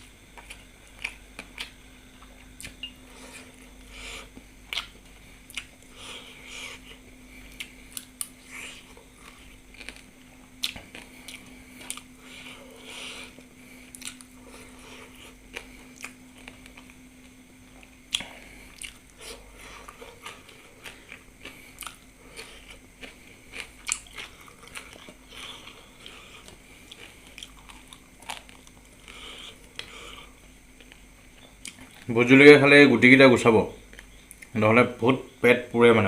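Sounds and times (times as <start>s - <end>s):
person chewing food: 0.0s - 32.1s
faint steady hum: 0.0s - 36.0s.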